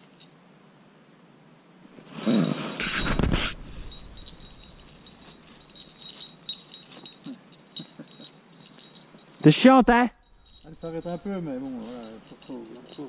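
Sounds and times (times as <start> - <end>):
high insect tone: 0.0 - 0.5, 1.4 - 13.0.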